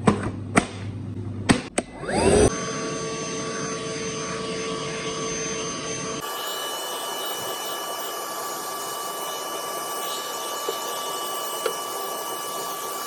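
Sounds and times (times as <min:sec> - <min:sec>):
vacuum cleaner motor running: 0:02.0 - 0:13.0.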